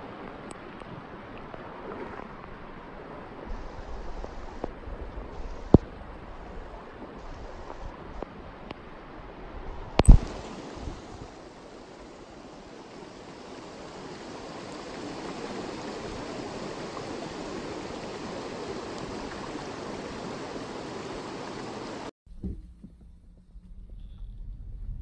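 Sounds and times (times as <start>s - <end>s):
river rushing over stones: 0.0s - 22.1s.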